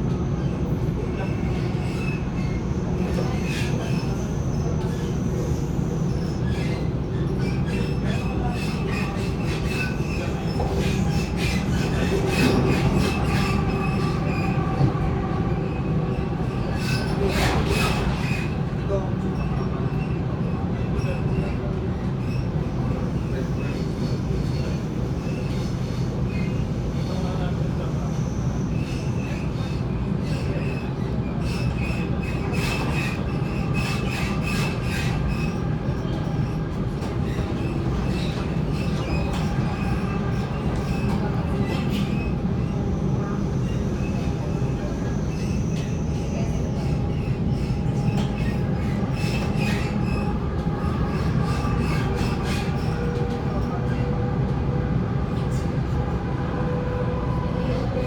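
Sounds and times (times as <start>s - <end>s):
electric train rumbling on track: 0.0s - 58.0s.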